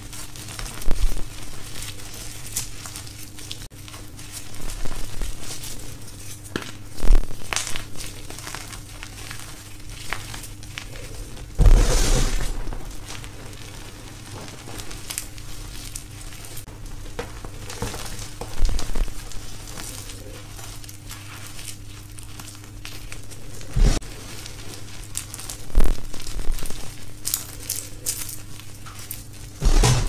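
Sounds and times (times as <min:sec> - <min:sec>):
hands crunching dry chalk: 0:00.0 - 0:30.0.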